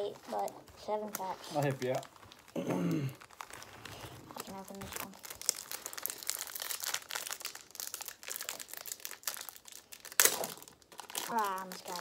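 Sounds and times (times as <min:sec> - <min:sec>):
plastic wrappers crinkling and tearing: 0:00.0 - 0:12.0.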